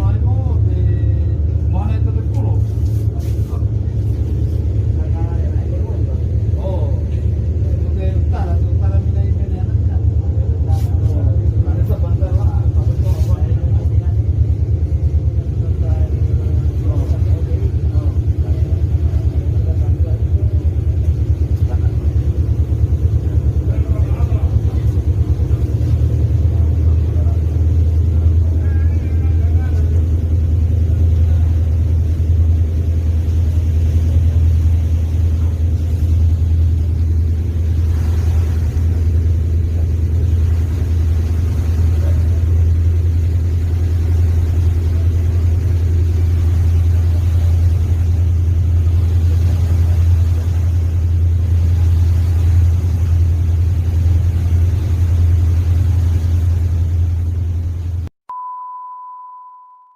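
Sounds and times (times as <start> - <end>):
ship engine droning: 0.0 - 59.9.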